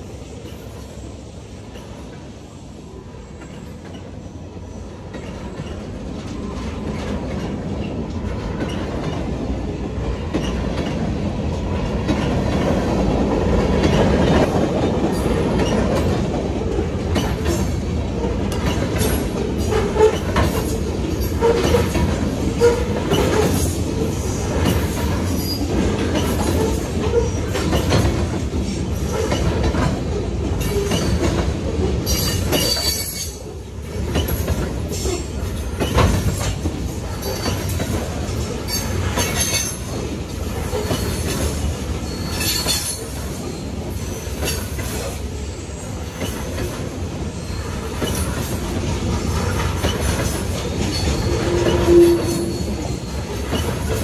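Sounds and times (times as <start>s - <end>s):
freight cars rumbling: 0.4s - 54.0s
wheels clicking over rail joints: 5.0s - 54.0s.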